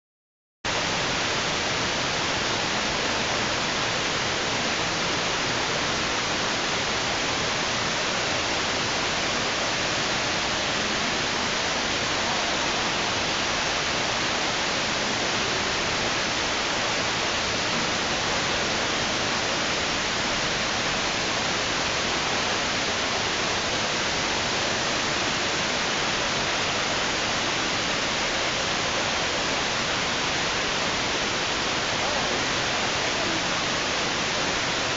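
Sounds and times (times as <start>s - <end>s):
waterfall rushing: 0.7s - 34.9s.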